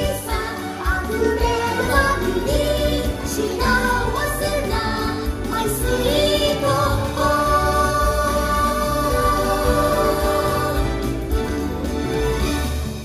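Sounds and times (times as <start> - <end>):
stage music with singing: 0.0 - 13.0.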